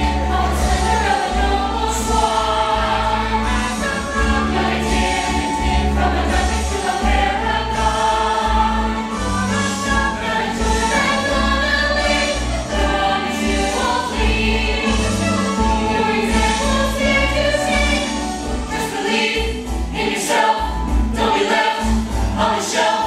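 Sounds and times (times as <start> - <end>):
group singing show tune: 0.0 - 23.0
instrumental accompaniment with bass: 0.0 - 23.0.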